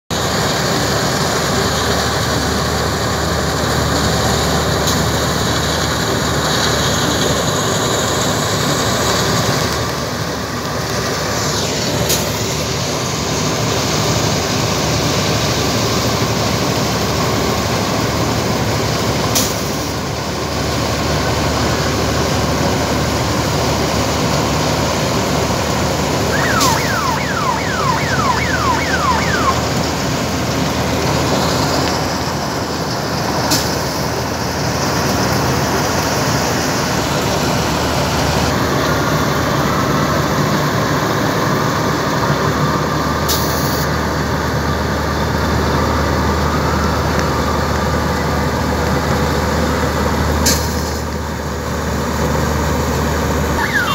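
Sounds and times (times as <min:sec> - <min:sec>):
combine harvester running: 0:00.1 - 0:53.9.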